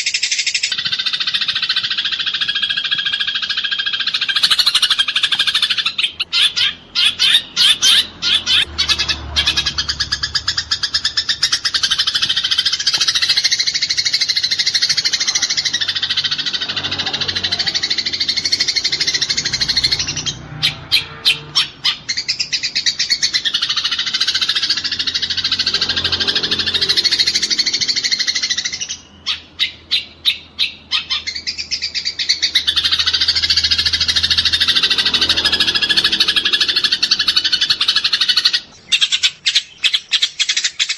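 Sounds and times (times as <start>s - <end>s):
sparrows chattering: 0.0s - 40.9s.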